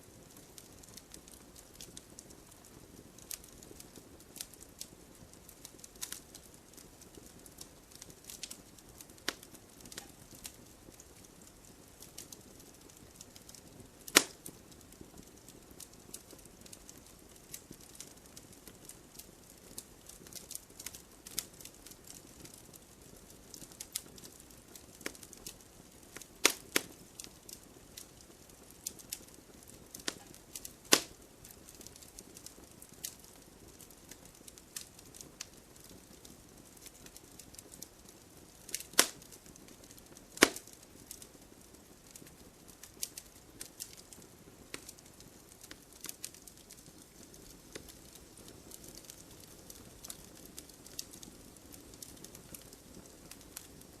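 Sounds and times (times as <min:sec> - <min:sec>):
firewood crackling: 0:00.0 - 0:54.0.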